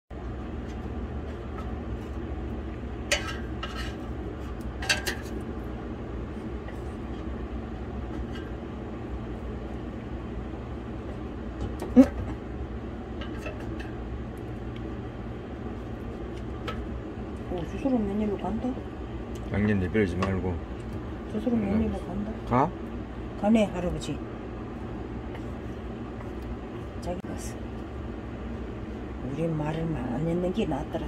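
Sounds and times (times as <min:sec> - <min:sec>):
steady low hum: 0:00.1 - 0:31.0.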